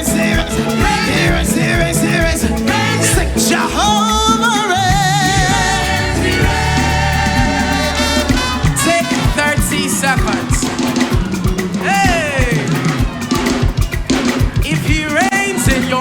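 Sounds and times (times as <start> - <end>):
person singing with vibrato: 0.0 - 13.0
gospel band with bass and drums: 0.0 - 16.0.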